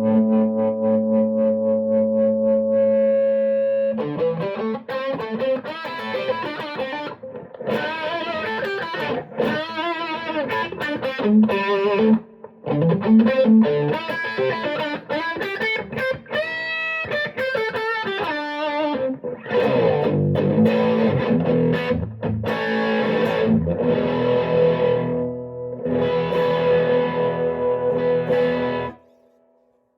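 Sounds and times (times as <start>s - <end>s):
distorted electric guitar: 0.0s - 29.6s.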